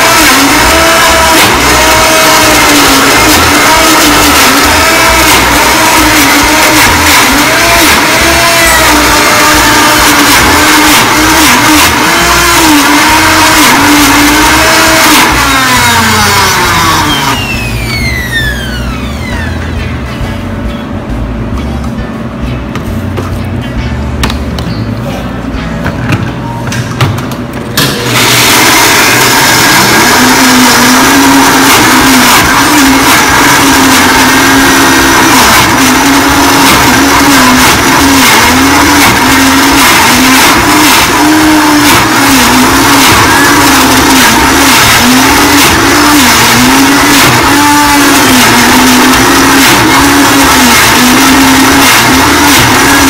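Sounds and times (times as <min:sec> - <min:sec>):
blender running: 0:00.0 - 0:19.8, 0:27.8 - 0:53.0.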